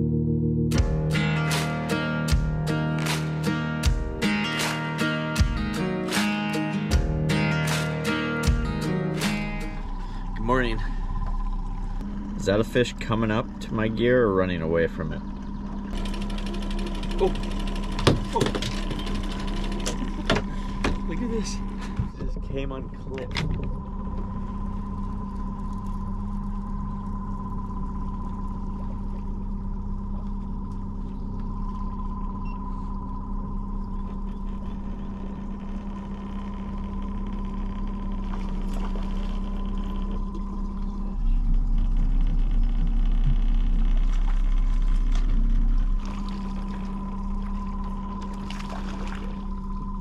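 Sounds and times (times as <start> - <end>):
boat motor humming: 0.0 - 50.0
water sloshing along hull: 9.8 - 50.0.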